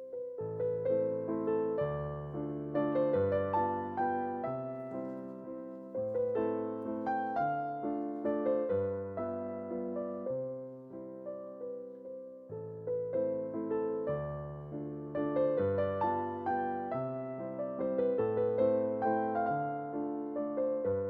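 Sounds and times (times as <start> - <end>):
solo piano piece: 0.0 - 21.0.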